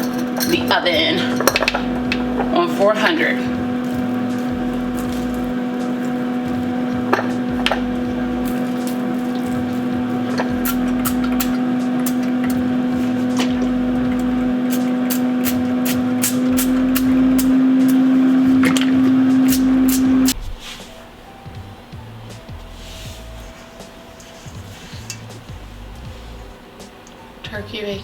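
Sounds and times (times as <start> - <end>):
kitchen appliance humming: 0.0 - 28.0.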